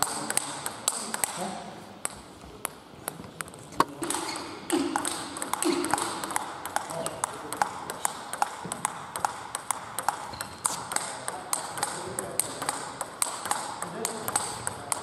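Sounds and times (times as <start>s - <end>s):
table tennis ball hits: 0.0s - 15.0s
table tennis hits from neighbouring table: 0.0s - 15.0s.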